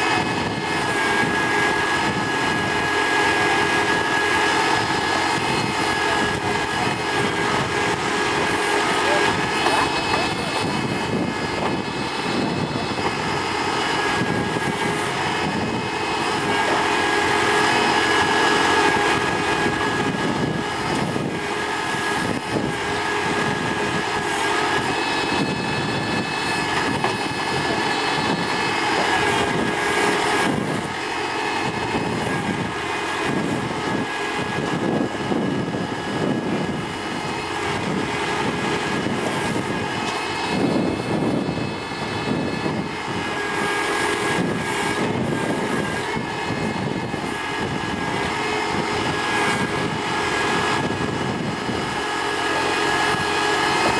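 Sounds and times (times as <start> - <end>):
backhoe digging soil: 0.0 - 53.9
tractor diesel engine running: 0.0 - 53.9.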